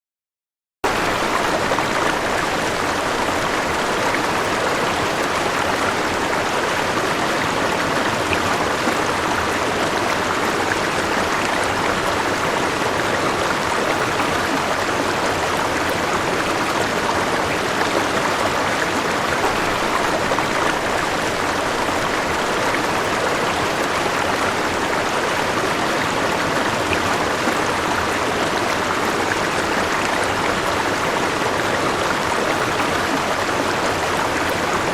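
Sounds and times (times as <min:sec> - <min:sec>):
river water flowing: 0:00.8 - 0:34.9.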